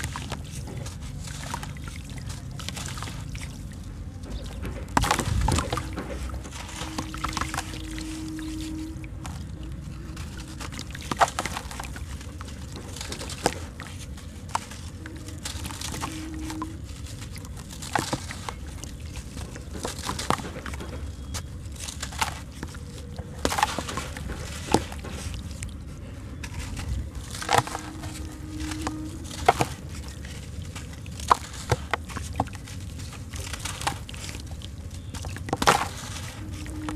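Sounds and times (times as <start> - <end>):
chunks cracking apart: 0.0 - 36.9.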